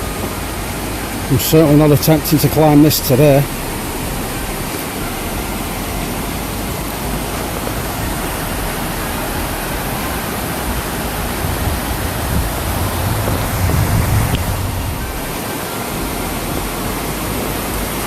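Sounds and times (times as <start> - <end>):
low rumble: 0.0 - 18.0
waterfall roaring: 0.0 - 18.0.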